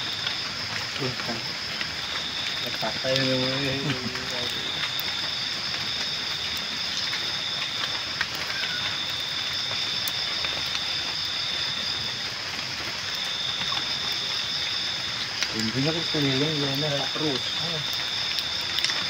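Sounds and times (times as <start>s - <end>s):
campfire crackling and popping: 0.0s - 19.0s
night insects chirring: 0.0s - 19.0s.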